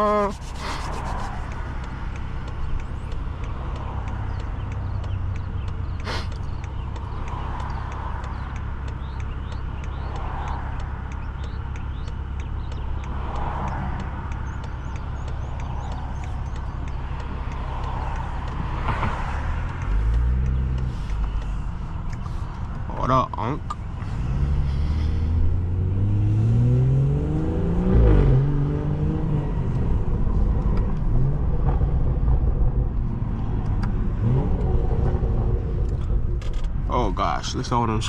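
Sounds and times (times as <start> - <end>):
car accelerating: 0.0 - 38.0
car engine deep drone: 0.0 - 38.0.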